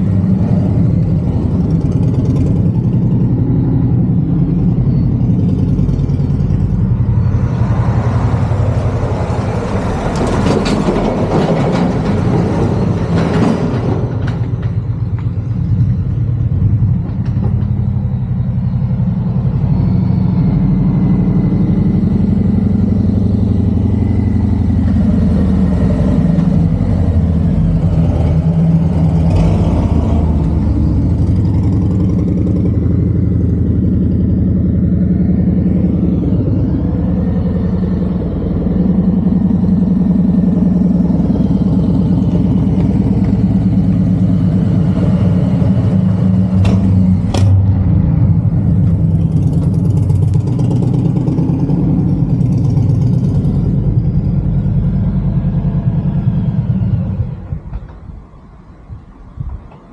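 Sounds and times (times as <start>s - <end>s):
motorcycle engine at low speed: 0.0s - 59.9s.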